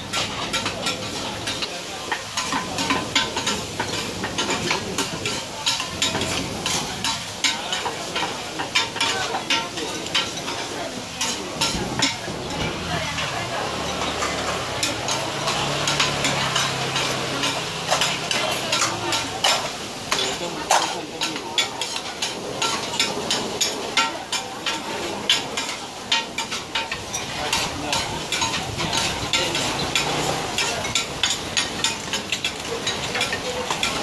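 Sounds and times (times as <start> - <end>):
frying sizzle: 0.0 - 34.0
metal utensils scraping pots: 0.0 - 34.0.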